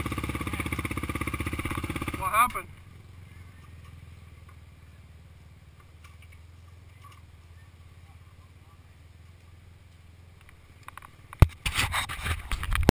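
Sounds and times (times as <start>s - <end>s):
quad engines idling: 0.0s - 11.6s.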